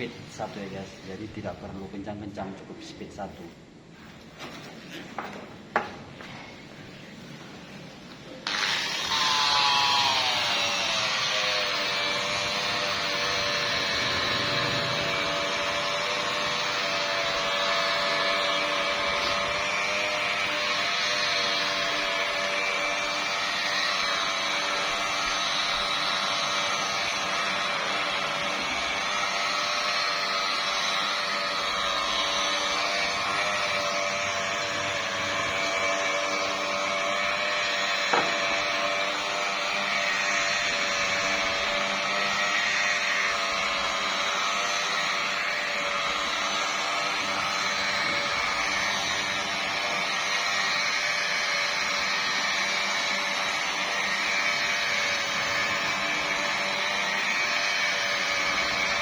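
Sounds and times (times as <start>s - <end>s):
electric car polisher running: 8.4s - 59.0s.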